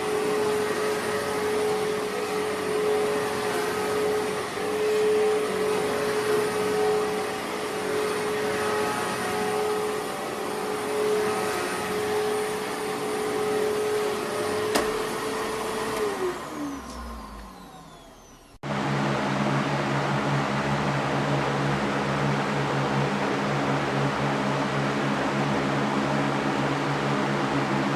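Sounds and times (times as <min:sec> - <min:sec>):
machine whir with low hum: 0:00.0 - 0:27.9
vacuum cleaner running: 0:00.0 - 0:27.9.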